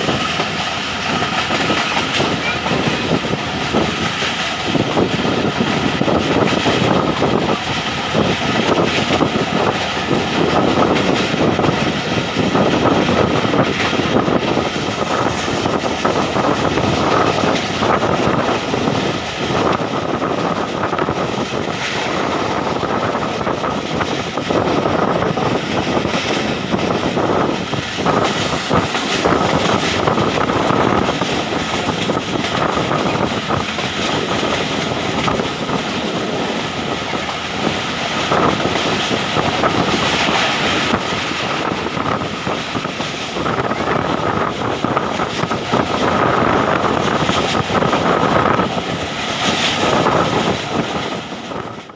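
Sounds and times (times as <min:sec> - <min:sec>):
rushing air: 0:00.0 - 0:51.9
train wheels rumbling on rails: 0:00.0 - 0:51.9.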